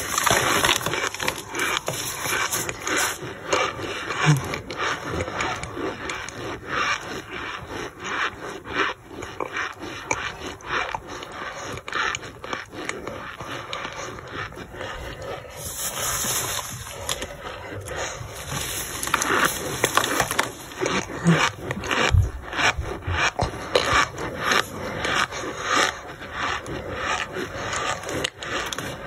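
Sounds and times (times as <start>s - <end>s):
brick chunks crunching and scraping: 0.0s - 29.0s.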